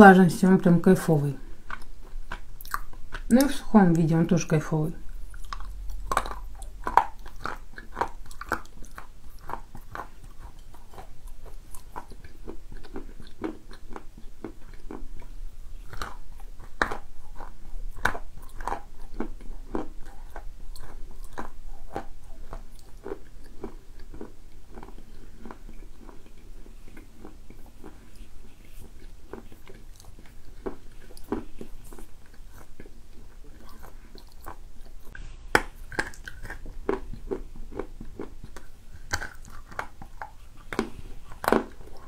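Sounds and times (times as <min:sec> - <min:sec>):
crunchy chewing: 0:01.4 - 0:03.6, 0:05.0 - 0:42.0.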